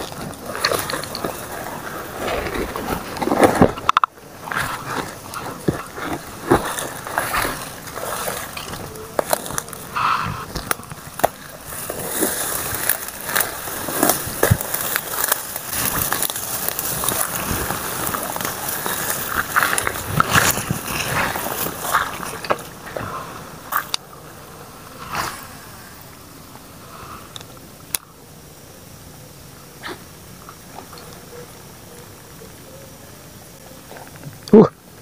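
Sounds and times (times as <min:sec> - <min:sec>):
leaves and grass rustling: 0:00.0 - 0:35.0.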